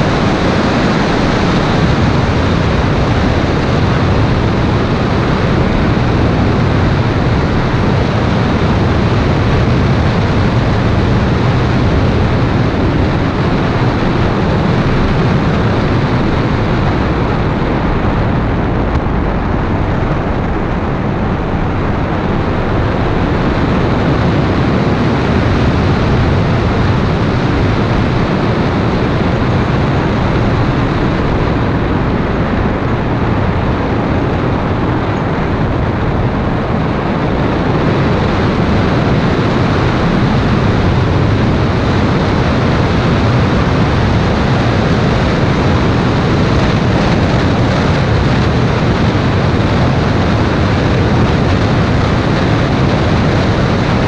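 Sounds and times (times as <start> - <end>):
car wind and road noise: 0.0 - 54.0.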